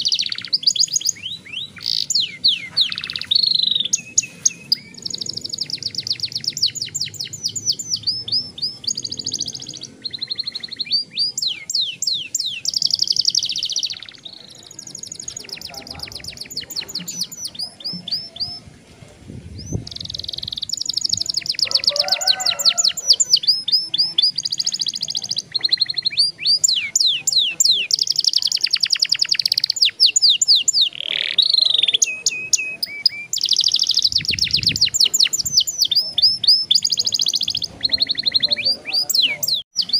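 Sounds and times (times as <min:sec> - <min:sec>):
canary singing trills: 0:00.0 - 0:18.8, 0:19.5 - 0:39.9.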